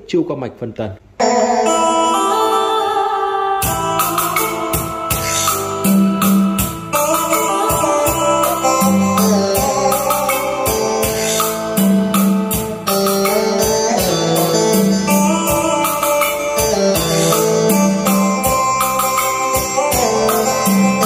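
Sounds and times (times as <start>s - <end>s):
music with a steady beat: 3.6s - 21.0s.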